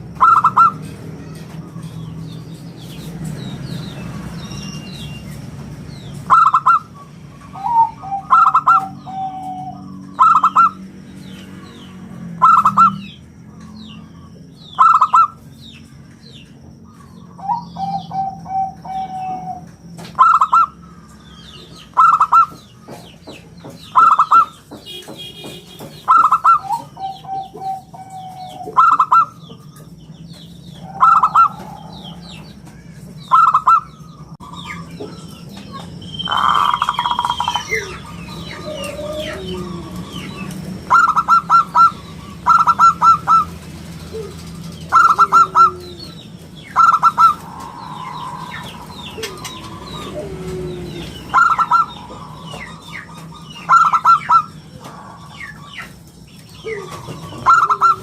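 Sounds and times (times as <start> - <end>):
dove cooing: 0.0 - 2.4, 6.2 - 15.6, 16.8 - 56.0, 56.6 - 58.0
small birds chirping: 0.0 - 58.0.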